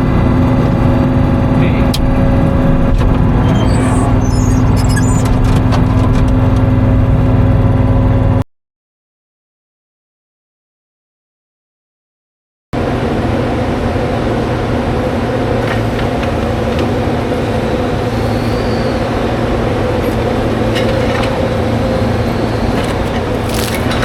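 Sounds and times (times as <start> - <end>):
diesel engine running: 0.0 - 8.4, 12.8 - 24.0.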